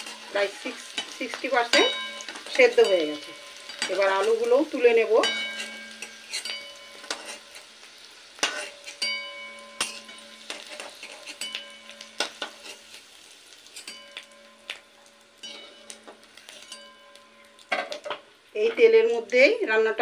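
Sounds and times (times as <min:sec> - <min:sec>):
metal spatula scraping a pan: 0:00.0 - 0:18.9
potato wedges sizzling in oil: 0:00.0 - 0:20.0.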